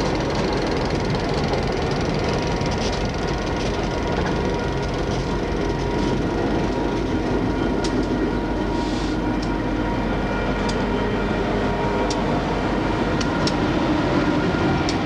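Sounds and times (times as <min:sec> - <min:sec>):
diesel locomotives passing: 0:00.0 - 0:15.0.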